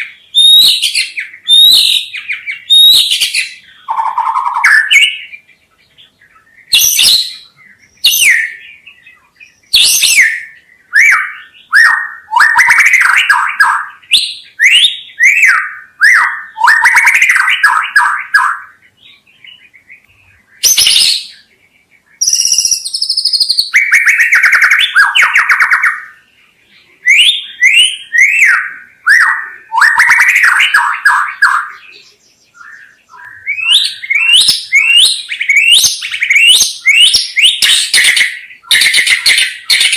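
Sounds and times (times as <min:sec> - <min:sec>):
songbird singing varied phrases: 0:00.0 - 0:39.9.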